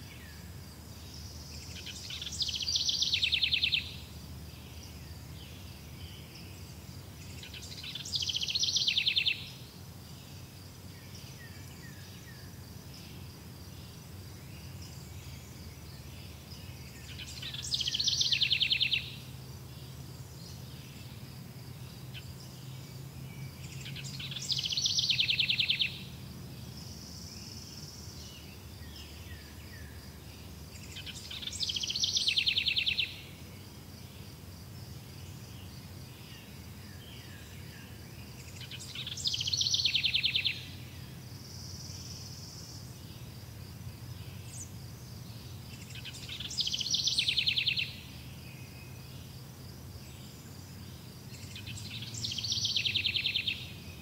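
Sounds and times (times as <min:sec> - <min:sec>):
insects chirring: 0:00.0 - 0:54.0
songbird song with trill: 0:00.0 - 0:54.0.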